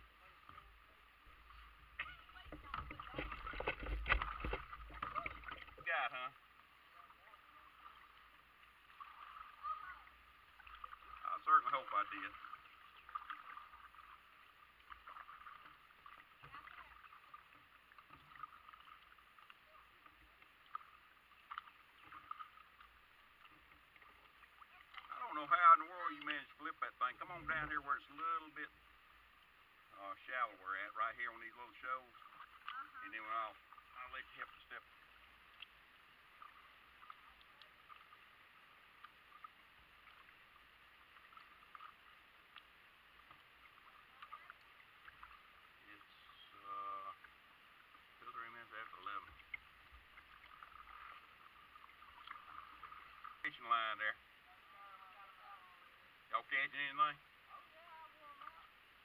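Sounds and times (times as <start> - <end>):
quiet steady hiss: 0.0 - 59.0
water lapping and trickling: 0.0 - 59.0.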